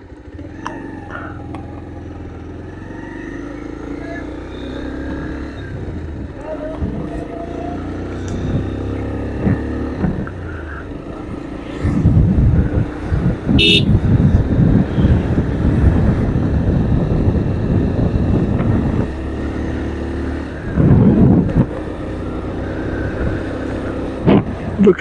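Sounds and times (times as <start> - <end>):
motorcycle engine in traffic: 0.0 - 25.0.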